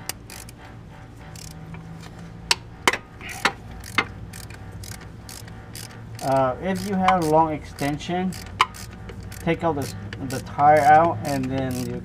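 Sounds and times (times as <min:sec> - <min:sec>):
socket ratchet clicking: 0:00.0 - 0:00.6, 0:01.3 - 0:01.6, 0:02.9 - 0:12.0.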